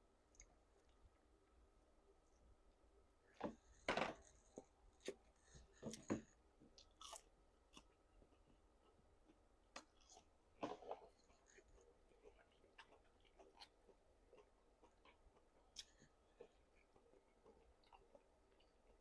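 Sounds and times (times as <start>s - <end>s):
person chewing and smacking food: 3.3s - 19.0s.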